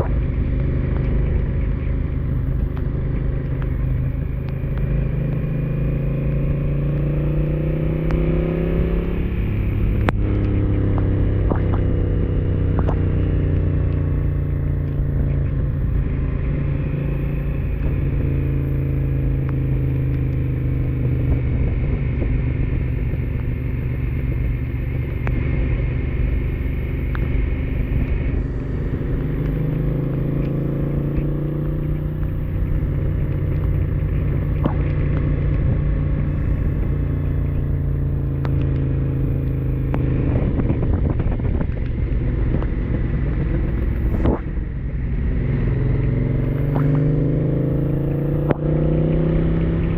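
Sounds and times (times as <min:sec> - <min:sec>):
motorcycle engine running: 0:00.0 - 0:49.9
wind: 0:00.0 - 0:49.9.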